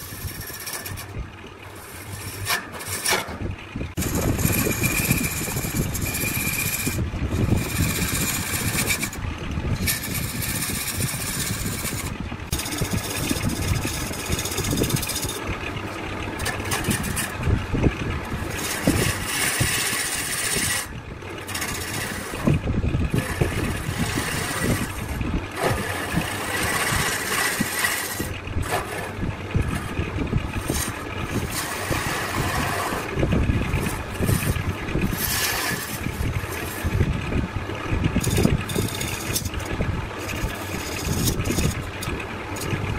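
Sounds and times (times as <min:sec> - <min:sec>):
woodworking machinery running: 0:00.0 - 0:42.9.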